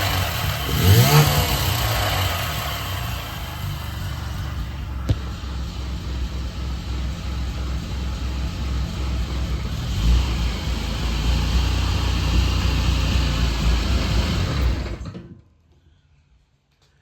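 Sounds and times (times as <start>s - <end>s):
rotary engine rumbling: 0.0s - 15.2s.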